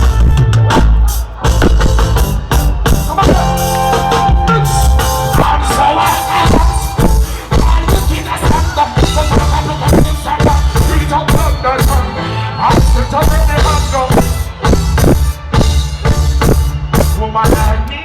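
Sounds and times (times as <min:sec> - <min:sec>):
drum kit beat: 0:00.0 - 0:18.0
heavy bass line: 0:00.0 - 0:18.0
sustained keyboard or guitar tones: 0:01.5 - 0:17.2.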